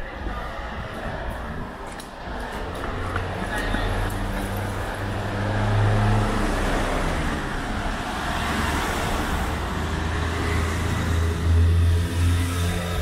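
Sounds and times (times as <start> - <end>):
road noise: 0.0 - 13.0
vehicle engines humming: 0.0 - 13.0.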